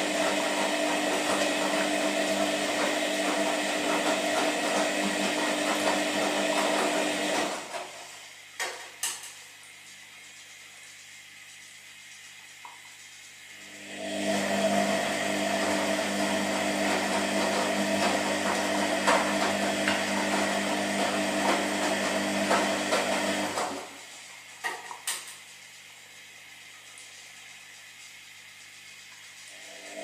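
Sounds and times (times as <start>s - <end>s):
washing machine running: 0.0s - 30.0s.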